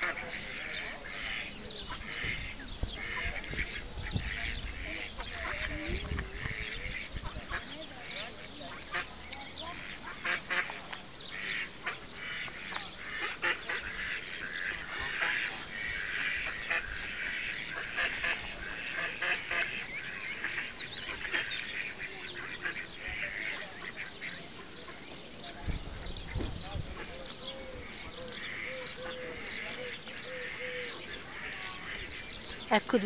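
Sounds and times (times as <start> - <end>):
ducks quacking: 0.0 - 33.0.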